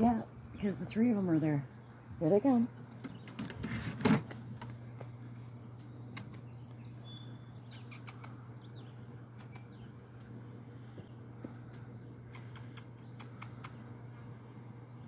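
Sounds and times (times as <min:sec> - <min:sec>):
hummingbirds chirping: 0:00.0 - 0:15.0
steady low hum: 0:00.0 - 0:15.0.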